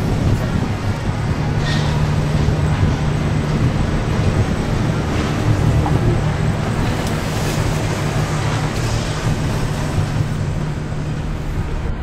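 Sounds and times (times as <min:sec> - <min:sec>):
boat engines idling: 0:00.0 - 0:12.0.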